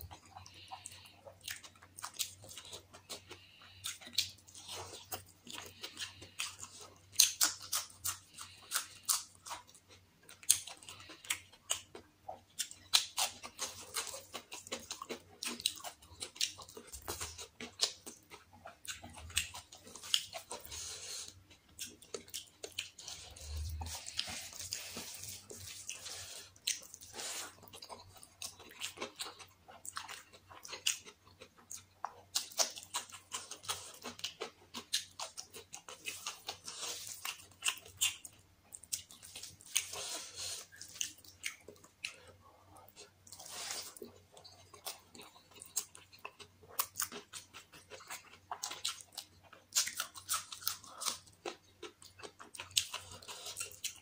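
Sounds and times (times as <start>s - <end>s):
close chewing mouth sounds: 0.0s - 54.0s.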